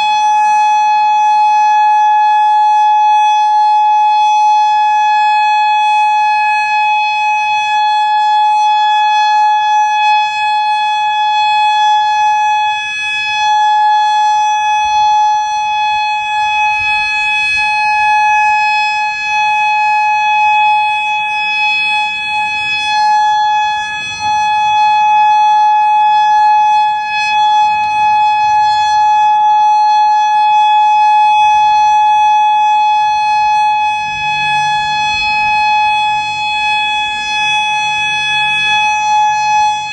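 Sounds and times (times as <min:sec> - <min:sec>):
electronic warning siren: 0:00.0 - 0:39.9.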